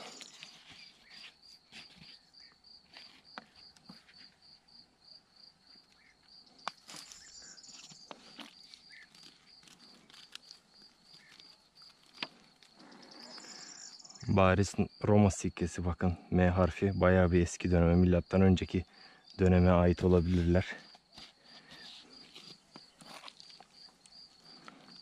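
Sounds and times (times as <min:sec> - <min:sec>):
cricket chirping: 0:00.0 - 0:25.0.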